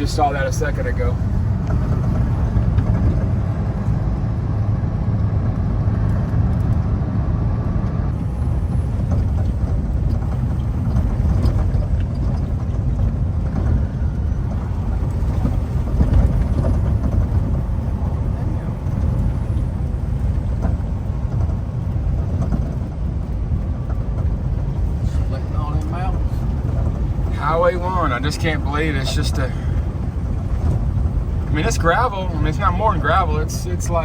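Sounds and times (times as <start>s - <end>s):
truck engine and road rumble: 0.0s - 34.0s.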